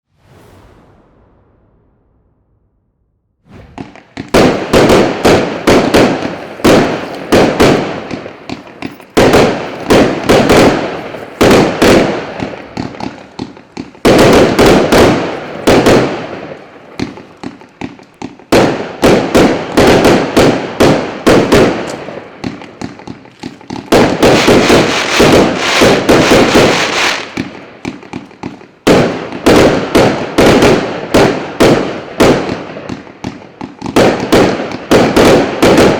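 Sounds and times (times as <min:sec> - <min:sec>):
firework bangs: 0:00.1 - 0:35.9.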